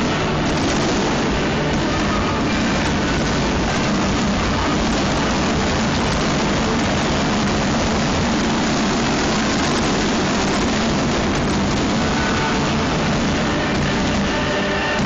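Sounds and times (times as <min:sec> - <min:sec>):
fireworks barrage: 0:00.0 - 0:15.0.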